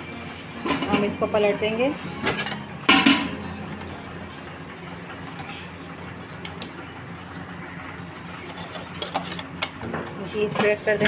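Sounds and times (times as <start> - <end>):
kitchen hum and hiss: 0.0 - 11.0.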